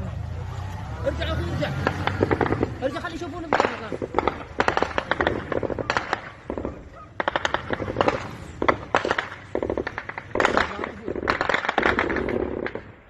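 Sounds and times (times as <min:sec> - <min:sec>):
automatic gunfire: 0:01.8 - 0:12.9.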